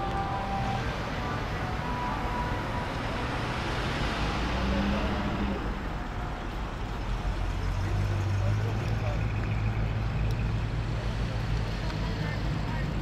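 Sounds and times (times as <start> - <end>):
car engines running slowly: 0.0 - 13.0.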